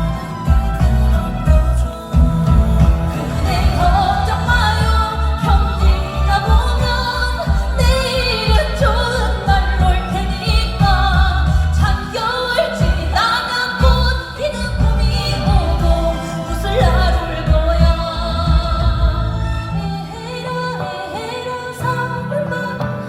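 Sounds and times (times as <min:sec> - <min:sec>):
backing track with bass beat: 0:00.0 - 0:19.9
woman singing with vibrato: 0:00.0 - 0:23.0.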